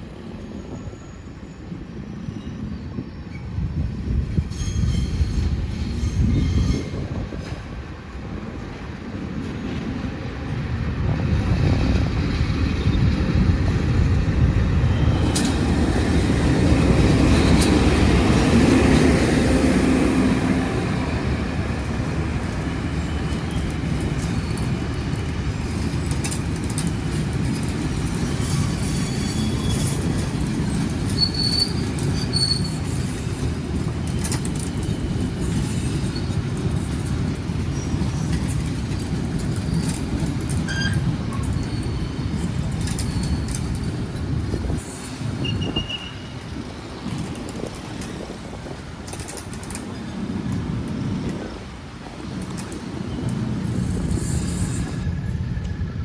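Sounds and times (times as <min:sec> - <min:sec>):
diesel train rumbling: 0:00.0 - 0:56.0.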